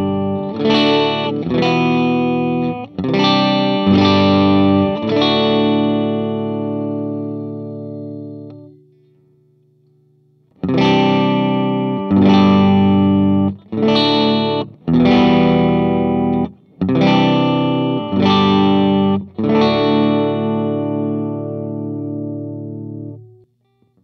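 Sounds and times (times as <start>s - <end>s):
electric guitar chords strummed: 0.0s - 9.0s, 10.5s - 23.4s.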